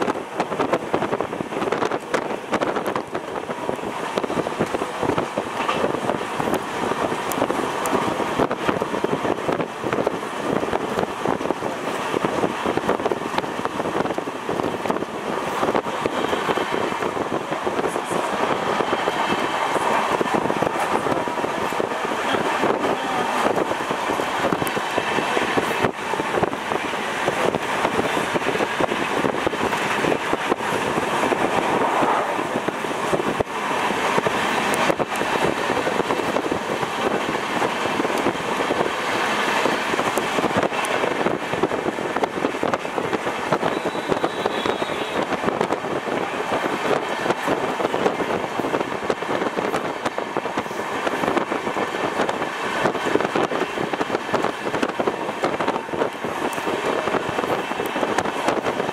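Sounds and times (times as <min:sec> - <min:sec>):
train wheels rushing on rails: 0:00.0 - 0:58.9.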